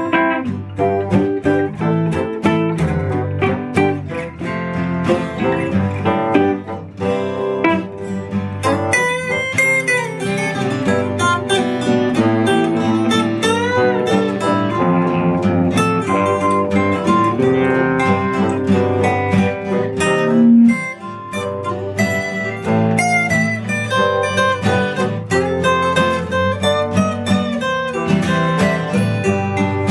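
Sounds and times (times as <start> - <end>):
live band instrumental music: 0.0 - 27.0
guitar with bending sliding notes: 0.0 - 29.9.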